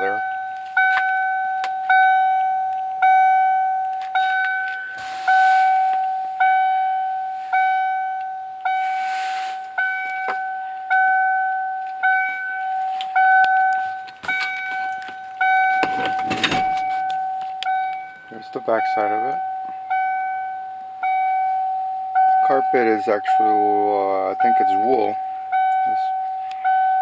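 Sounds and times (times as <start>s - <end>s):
car warning chime: 0.0s - 27.0s.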